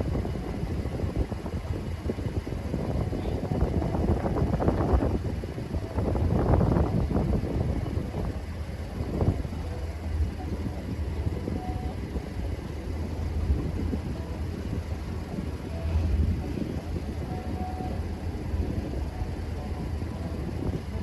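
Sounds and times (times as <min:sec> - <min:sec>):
diesel engines rumbling: 0:00.0 - 0:21.0
wind buffeting microphone: 0:00.0 - 0:21.0.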